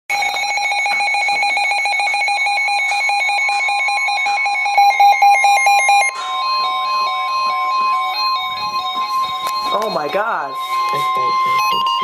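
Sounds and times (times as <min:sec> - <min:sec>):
higher tone stepping up and down: 0:00.1 - 0:12.0
rapid pulsing alert beep: 0:00.1 - 0:12.0.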